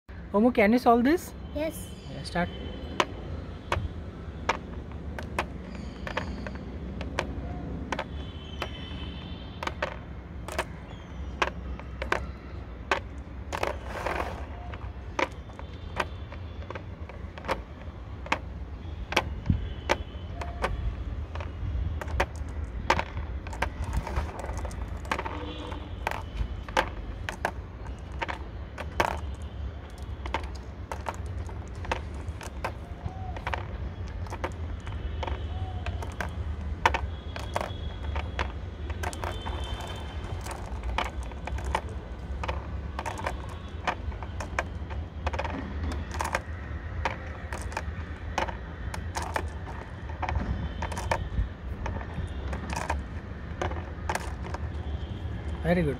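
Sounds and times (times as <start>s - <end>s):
marbles clicking on plastic board: 2.9s - 55.9s.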